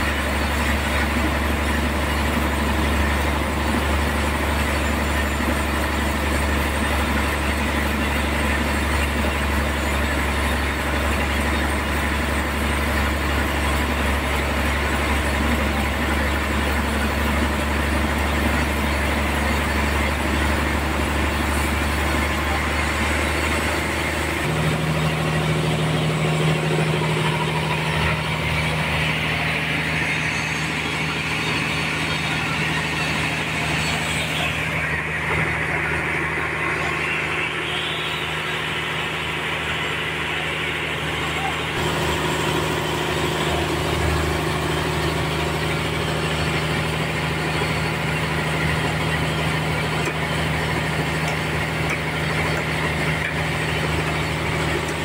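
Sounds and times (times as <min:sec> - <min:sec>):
engine-driven saw droning: 0:00.0 - 0:55.0.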